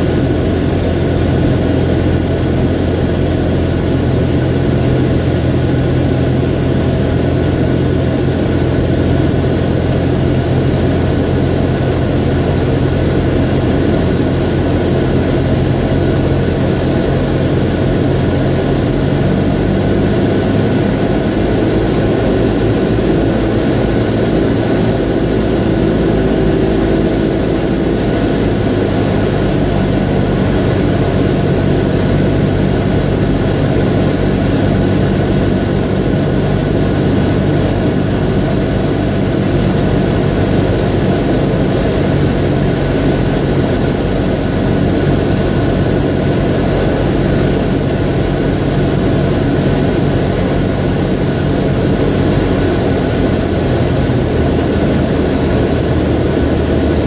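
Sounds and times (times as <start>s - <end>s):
propeller airplane engine running: 0.0s - 57.0s.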